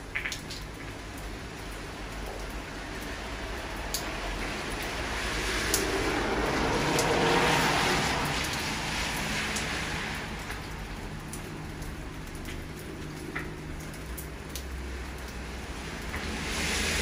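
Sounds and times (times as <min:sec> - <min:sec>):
sharp water drips: 0:00.0 - 0:17.0
steady rain hiss: 0:00.0 - 0:17.0.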